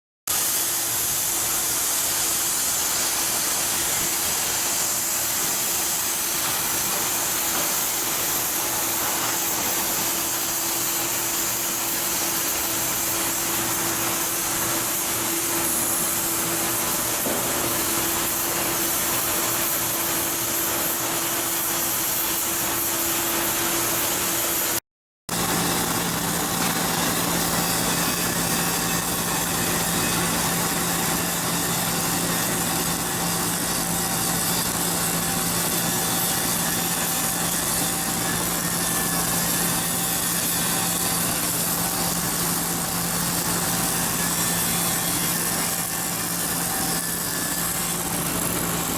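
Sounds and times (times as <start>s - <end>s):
machinery humming with hissing: 0.3s - 48.9s.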